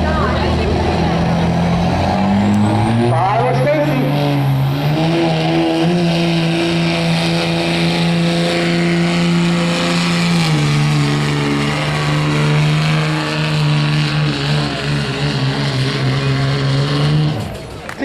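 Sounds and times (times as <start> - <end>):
vehicle engine running under load: 0.0 - 18.0.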